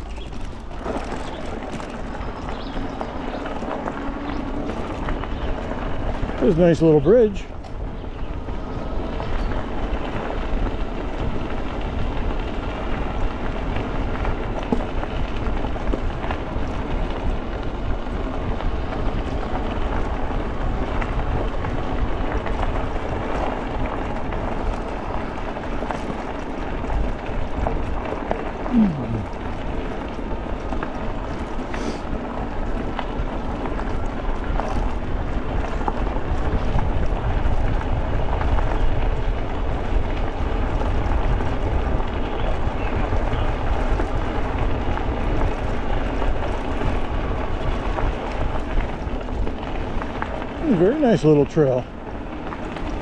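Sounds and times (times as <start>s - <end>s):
wind on microphone: 0.0s - 51.2s
bike tyres rolling on trail: 0.0s - 53.0s.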